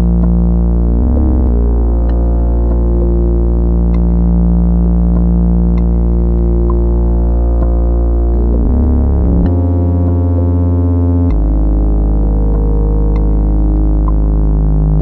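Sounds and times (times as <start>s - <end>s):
deep bass drone: 0.0s - 15.0s
steady synth pad tones: 0.0s - 15.0s.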